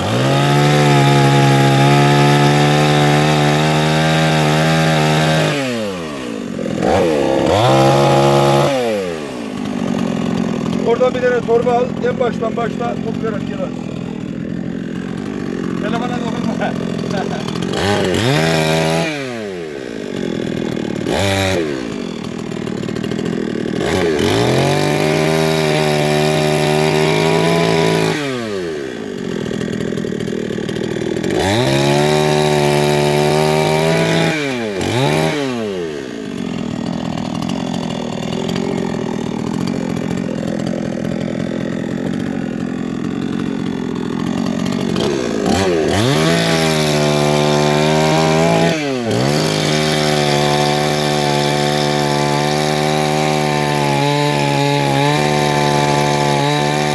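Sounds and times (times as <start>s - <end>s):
chainsaw engine revving: 0.0s - 56.9s.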